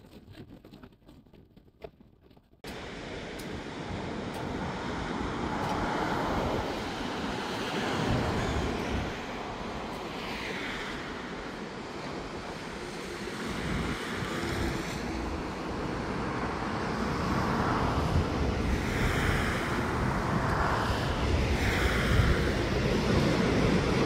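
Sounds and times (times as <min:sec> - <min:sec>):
car wind and tyre noise: 0:00.0 - 0:24.0
passing vehicles whooshing: 0:02.7 - 0:24.0.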